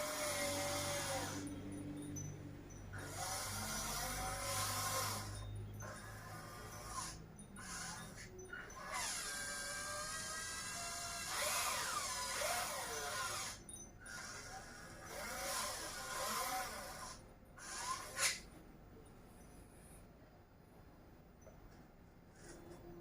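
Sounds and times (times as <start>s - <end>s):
electric motors whining: 0.0s - 18.5s.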